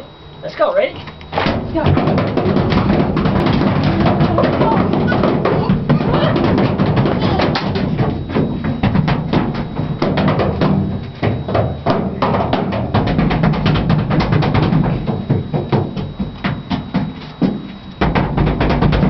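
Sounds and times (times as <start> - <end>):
rapid percussion drumming: 1.4 - 19.0.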